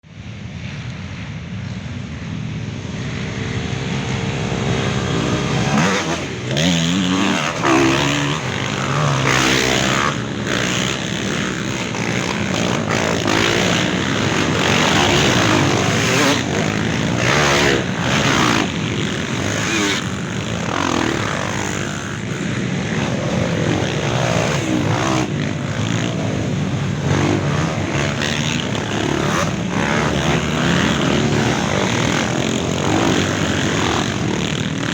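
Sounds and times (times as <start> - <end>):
motorcycles revving: 1.2 - 34.9.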